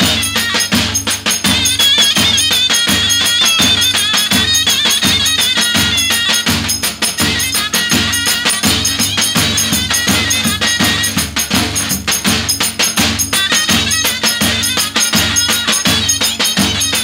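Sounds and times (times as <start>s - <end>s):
piercing reed pipe folk melody: 0.0s - 12.4s, 13.0s - 17.0s.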